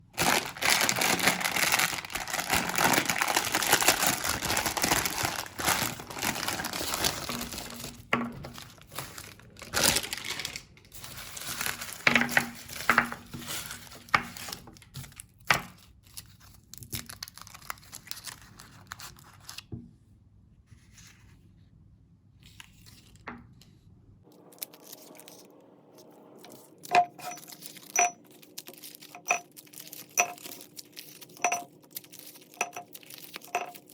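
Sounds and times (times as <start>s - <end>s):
candy wrappers crinkling and tearing: 0.0s - 19.7s, 24.4s - 25.5s, 26.5s - 33.9s.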